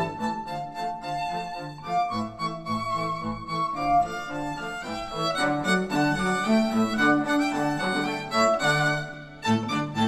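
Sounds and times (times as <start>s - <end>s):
bowed strings music: 0.0s - 10.0s.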